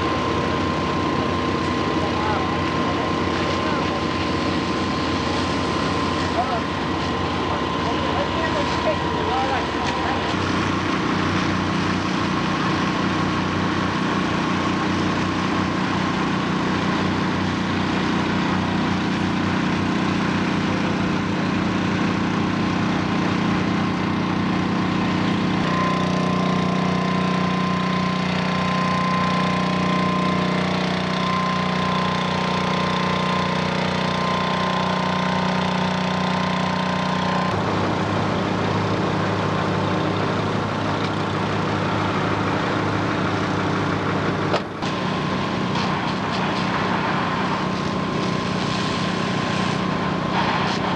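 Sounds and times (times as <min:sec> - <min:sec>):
fire truck engine humming: 0:00.0 - 0:50.9.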